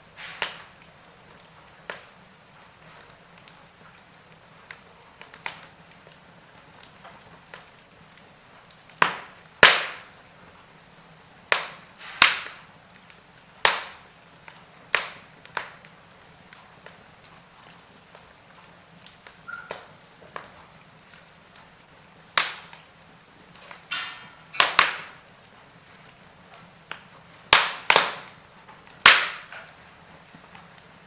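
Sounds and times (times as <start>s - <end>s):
faint hiss: 0.0s - 31.0s
wood fire crackling: 0.0s - 31.0s.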